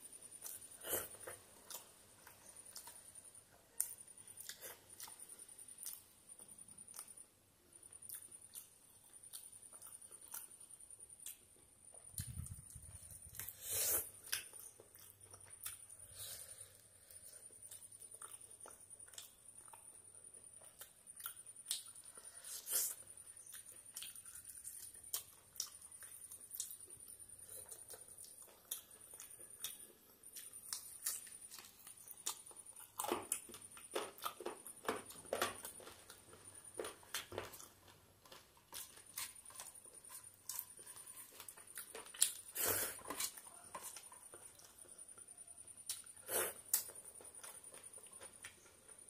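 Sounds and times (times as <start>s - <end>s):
faint high-pitched whine: 0.0s - 49.0s
wet chewing: 8.0s - 49.0s.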